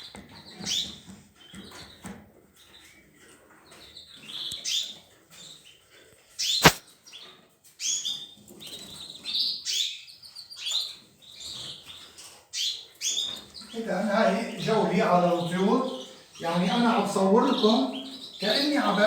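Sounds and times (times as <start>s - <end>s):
canaries chirping: 0.2s - 19.0s.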